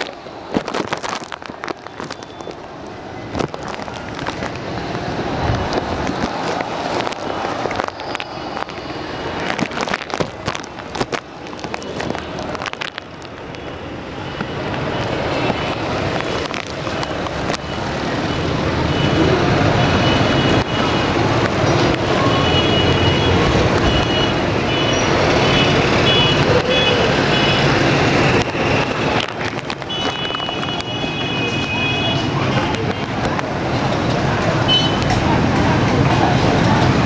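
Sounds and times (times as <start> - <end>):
car engines passing: 0.0 - 37.0
motorcycles passing: 0.0 - 37.0
trucks passing: 0.0 - 37.0.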